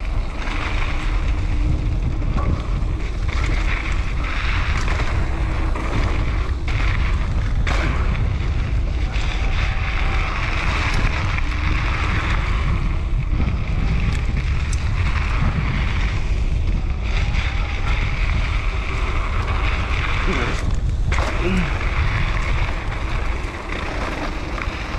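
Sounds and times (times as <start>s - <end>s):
bike knocking over bumps: 0.0s - 24.9s
tyres rolling on dirt trail: 0.0s - 24.9s
wind buffeting microphone: 0.0s - 24.9s.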